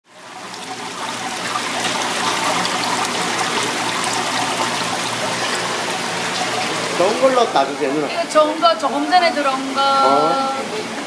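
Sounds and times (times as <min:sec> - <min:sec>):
water splashing into tanks: 0:00.1 - 0:11.0.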